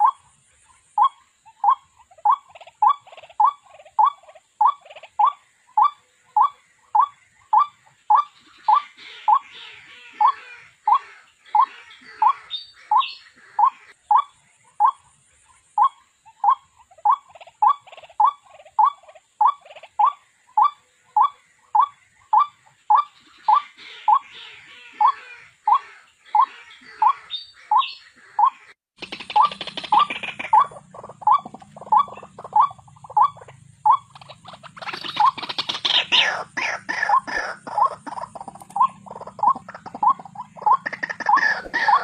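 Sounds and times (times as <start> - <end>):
harsh bird chattering: 0.0 - 42.0.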